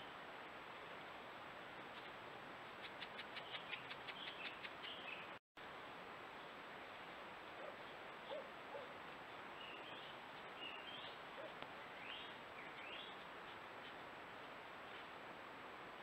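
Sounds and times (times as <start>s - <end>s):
steady faint hiss: 0.0s - 16.0s.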